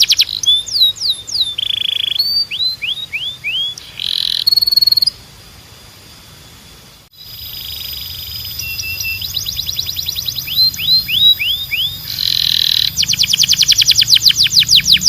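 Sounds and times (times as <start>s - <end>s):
canary trilling and whistling: 0.0s - 5.2s, 7.2s - 15.0s.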